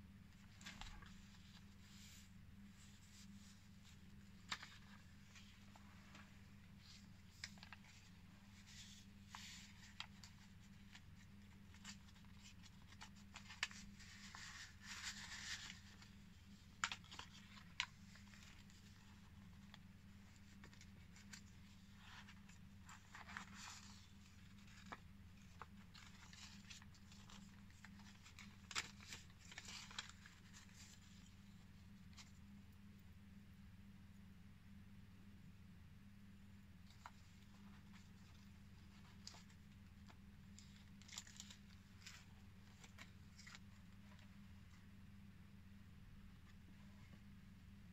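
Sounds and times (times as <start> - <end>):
paper pages rustling: 0.2 - 32.4, 36.8 - 44.8.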